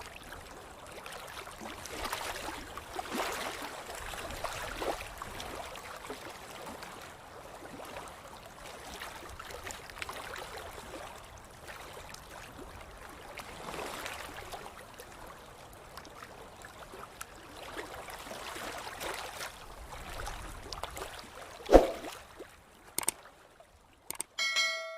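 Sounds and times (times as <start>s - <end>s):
water lapping: 0.0s - 24.2s.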